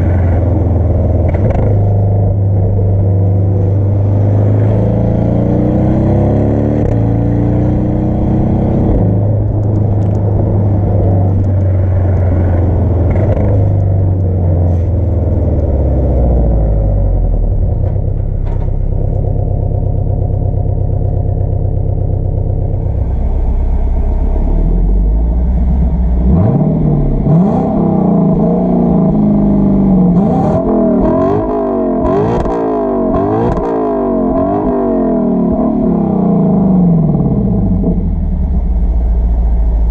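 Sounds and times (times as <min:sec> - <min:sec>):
sports car engine revving: 0:00.0 - 0:39.9.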